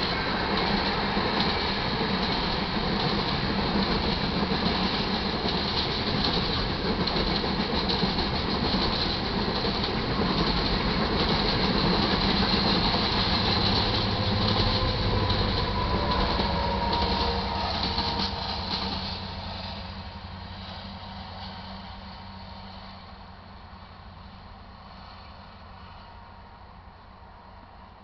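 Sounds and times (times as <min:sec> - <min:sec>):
train wheels clattering over rails: 0:00.0 - 0:23.0
diesel locomotive engine drone: 0:00.0 - 0:28.0.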